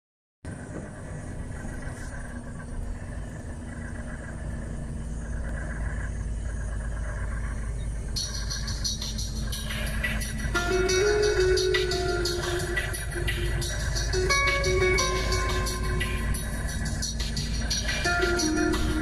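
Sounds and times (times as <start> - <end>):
vehicle engine and road noise: 0.4 - 19.0
faint steady hum: 0.5 - 19.0.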